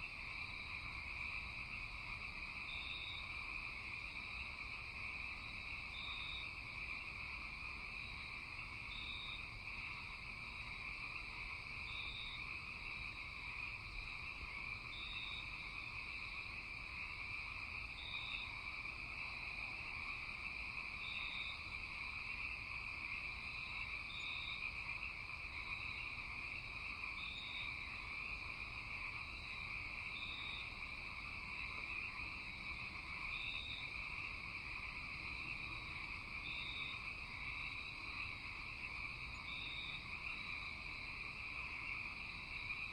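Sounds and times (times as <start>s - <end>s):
frogs and insects trilling: 0.0s - 42.9s.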